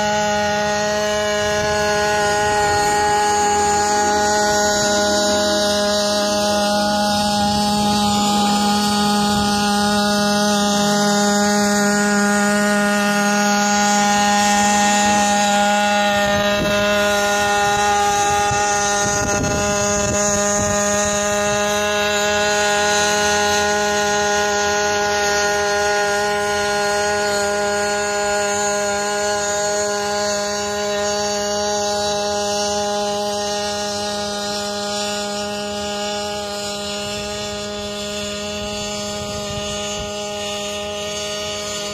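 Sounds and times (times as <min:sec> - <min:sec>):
quadcopter engine running: 0:00.0 - 0:41.9
rotors whirring: 0:00.0 - 0:41.9.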